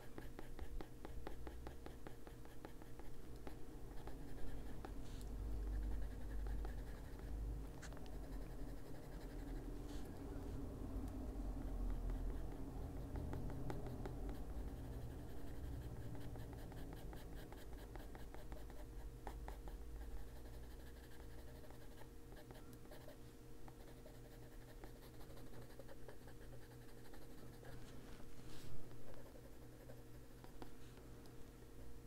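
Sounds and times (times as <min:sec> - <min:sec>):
pencil scratching on paper: 0:00.0 - 0:10.2, 0:11.6 - 0:23.2, 0:23.8 - 0:27.9, 0:29.0 - 0:30.0
steady low hum: 0:00.0 - 0:32.0.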